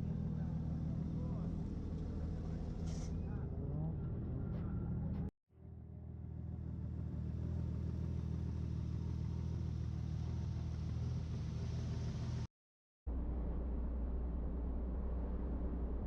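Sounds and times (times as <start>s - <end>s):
vehicle engine and road rumble: 0.0s - 12.5s, 13.1s - 16.0s.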